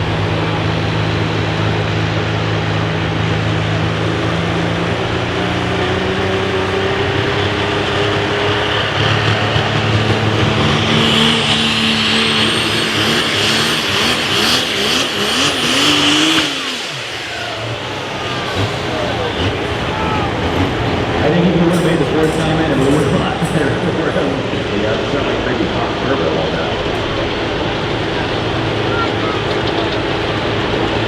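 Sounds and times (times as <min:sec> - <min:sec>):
diesel truck engine under load: 0:00.0 - 0:31.0
high turbo whine: 0:00.0 - 0:31.0.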